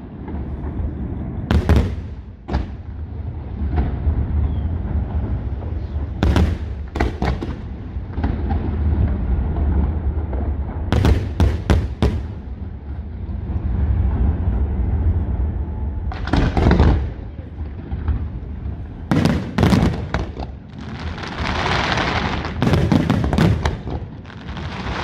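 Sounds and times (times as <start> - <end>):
continuous low rumble: 0.0 - 25.0
fireworks bangs: 0.0 - 25.0.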